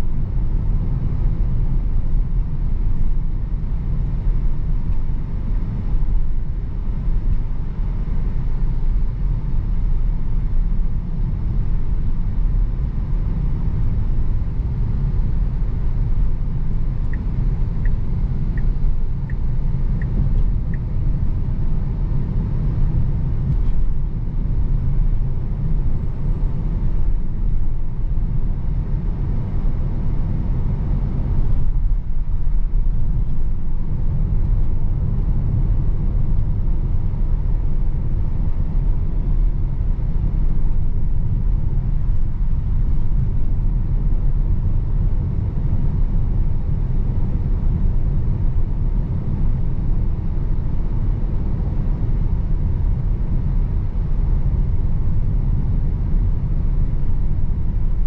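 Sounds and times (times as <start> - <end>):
road and tyre rumble in car cabin: 0.0 - 58.0.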